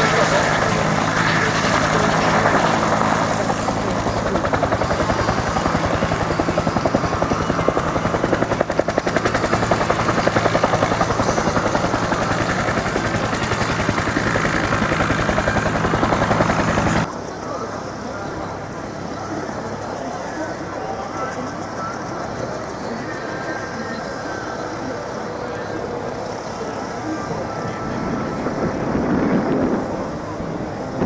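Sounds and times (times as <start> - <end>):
helicopter engine hum: 0.0 - 31.0
helicopter rotor beating: 0.0 - 31.0.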